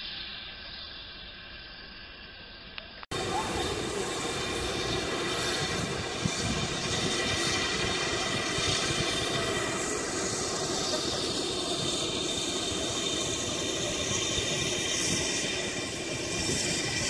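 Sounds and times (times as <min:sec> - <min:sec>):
steam locomotive hissing: 0:03.1 - 0:17.0
wind buffeting microphone: 0:03.1 - 0:17.0.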